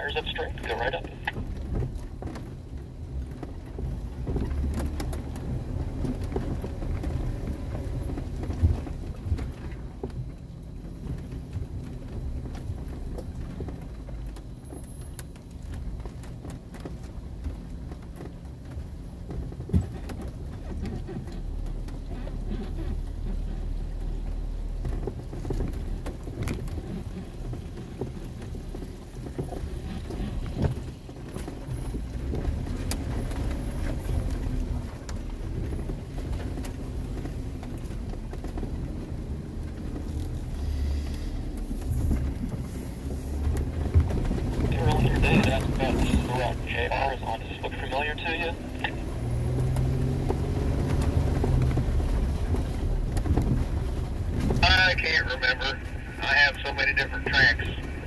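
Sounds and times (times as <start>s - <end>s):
low engine rumble: 0.0s - 58.0s.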